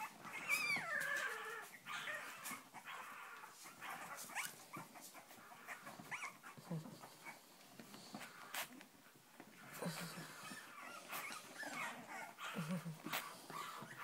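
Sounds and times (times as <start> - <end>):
puppies whimpering: 0.0 - 14.0.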